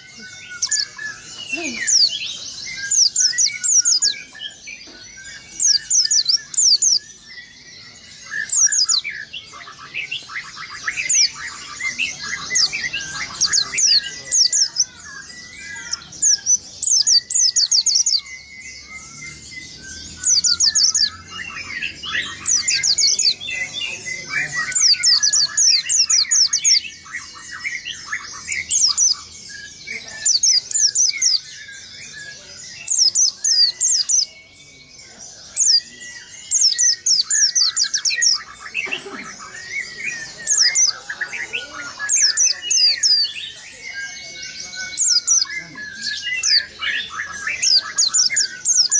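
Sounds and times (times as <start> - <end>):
bird song with falling notes: 0.0 - 48.9
bird twittering chatter: 0.0 - 48.9.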